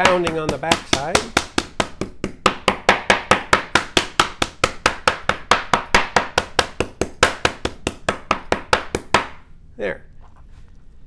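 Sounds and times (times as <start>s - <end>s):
mallet pounding meat: 0.0s - 9.4s.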